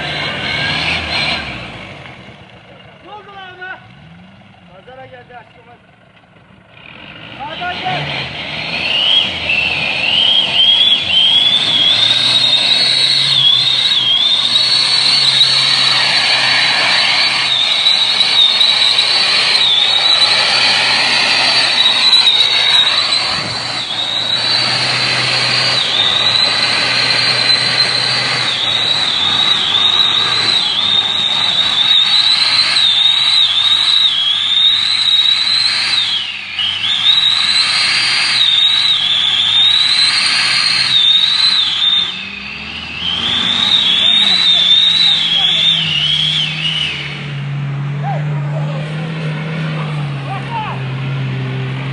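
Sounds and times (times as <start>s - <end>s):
off-road vehicle engine whining: 0.0s - 51.9s.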